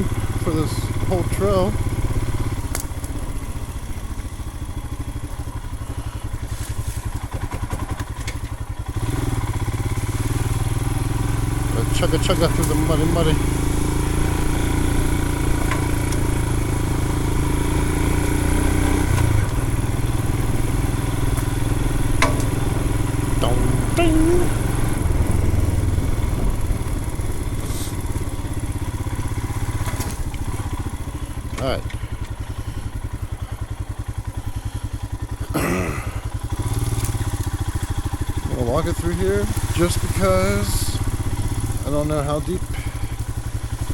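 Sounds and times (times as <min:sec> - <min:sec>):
motorcycle engine chugging: 0:00.0 - 0:43.9.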